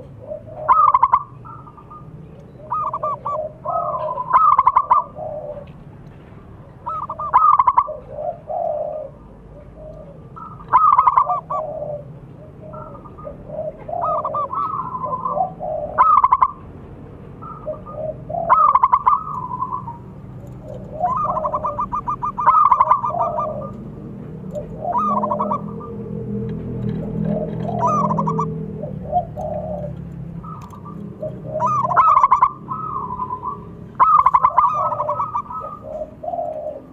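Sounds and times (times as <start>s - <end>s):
dove cooing: 0.0s - 5.9s, 6.6s - 16.7s, 17.4s - 36.9s.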